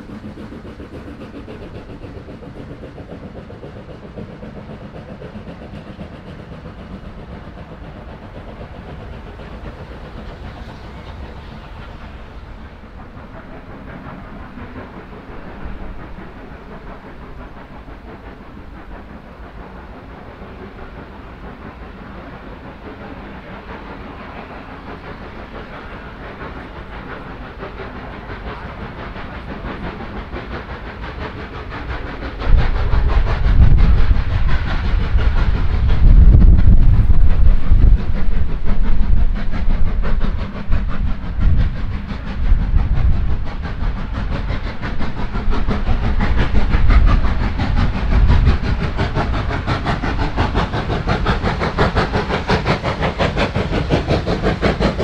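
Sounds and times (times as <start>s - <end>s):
steam train passing: 0.0s - 55.0s.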